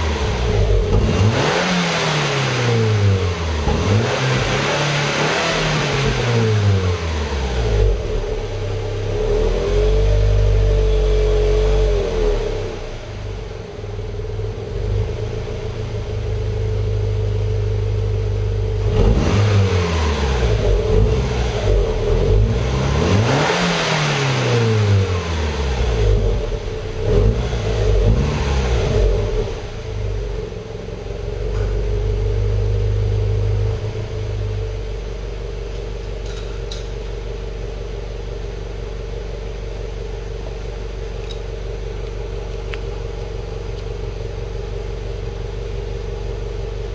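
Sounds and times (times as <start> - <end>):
car engine revving and idling: 0.0 - 46.9.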